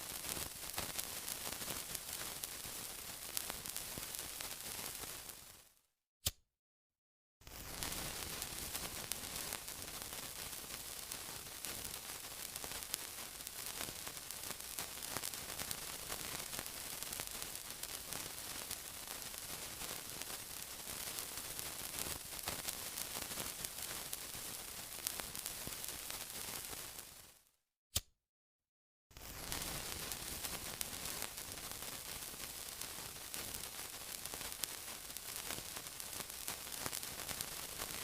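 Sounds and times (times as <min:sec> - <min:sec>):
sizzling hiss with crackles: 0:00.0 - 0:05.8, 0:07.4 - 0:27.5, 0:29.1 - 0:38.0.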